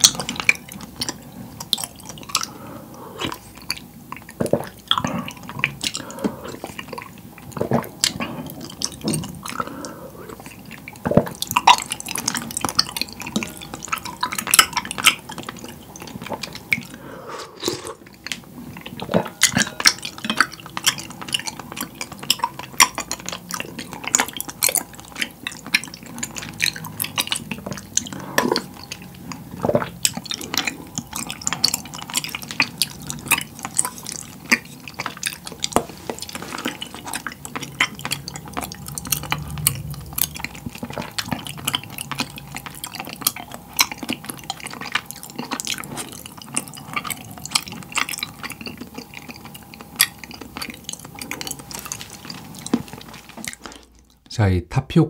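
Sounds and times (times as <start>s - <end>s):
slurping: 0.0s - 54.3s
wet chewing: 0.0s - 54.3s.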